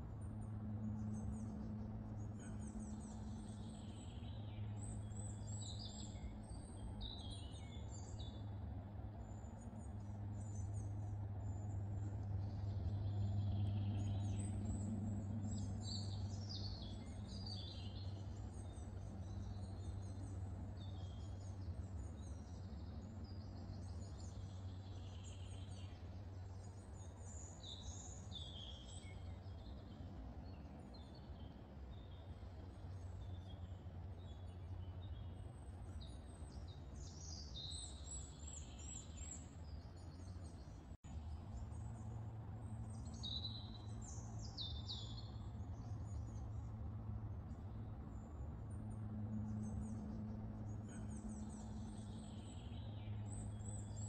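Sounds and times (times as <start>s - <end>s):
songbirds chirping and twittering: 0.0s - 54.0s
steady low background hum: 0.0s - 54.0s.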